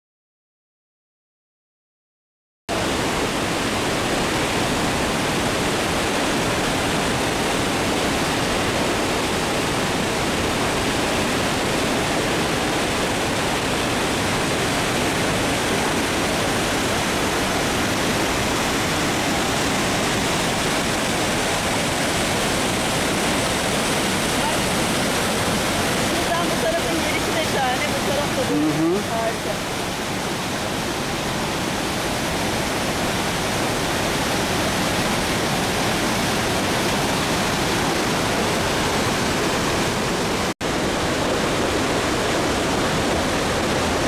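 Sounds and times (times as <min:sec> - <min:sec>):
stream rushing over boulders: 0:02.7 - 0:44.0.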